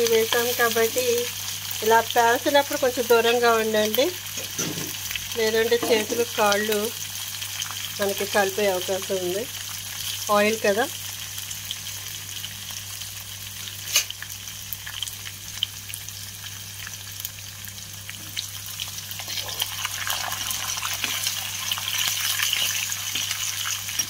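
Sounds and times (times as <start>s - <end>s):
chillies sizzling in hot oil: 0.0s - 24.0s.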